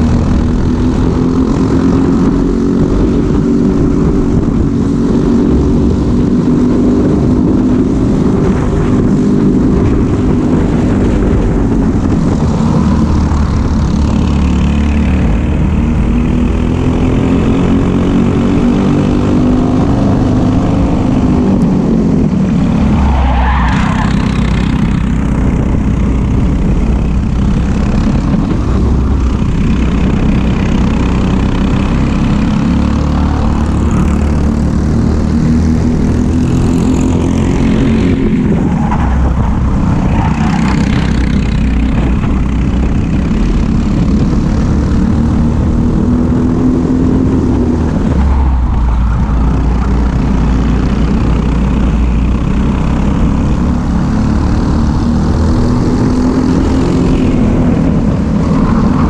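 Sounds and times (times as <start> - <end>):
kart engines racing: 0.0 - 59.0.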